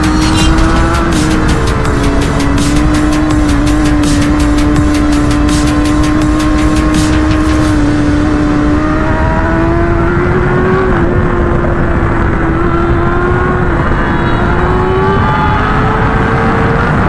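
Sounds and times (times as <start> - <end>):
motorcycle engine running: 0.0 - 16.5
wind noise rushing: 0.0 - 17.0.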